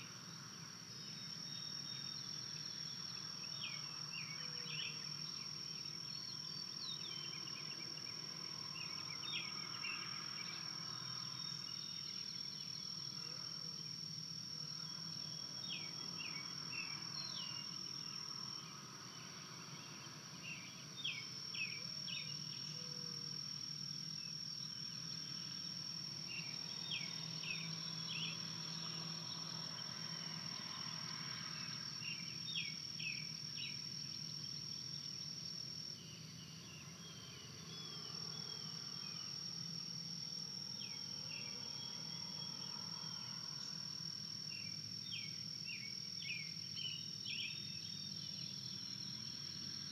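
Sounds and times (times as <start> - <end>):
high-pitched insect trill: 0.0 - 49.9.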